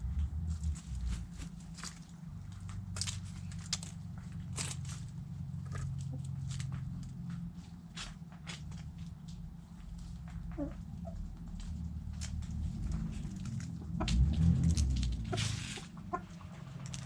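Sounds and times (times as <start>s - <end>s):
low steady rumble: 0.0s - 17.0s
chickens pecking: 0.2s - 17.0s.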